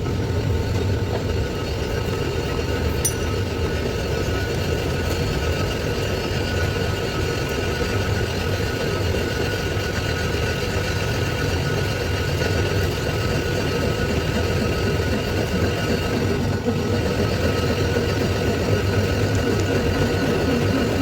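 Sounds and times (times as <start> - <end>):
workshop machine humming and whining: 0.0 - 21.0.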